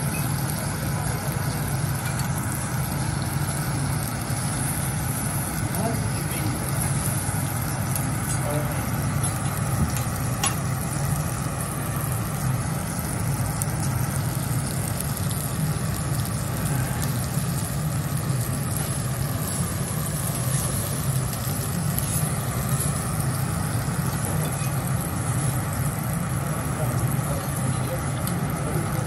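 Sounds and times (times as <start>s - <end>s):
steaks searing hiss: 0.0s - 29.0s
ventilation humming: 0.0s - 29.0s.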